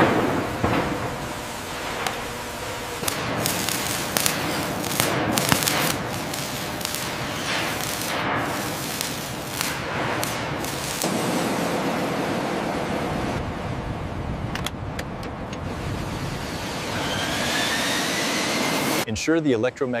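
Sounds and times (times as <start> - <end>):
arc welding crackling: 0.0 - 13.3, 15.7 - 19.1.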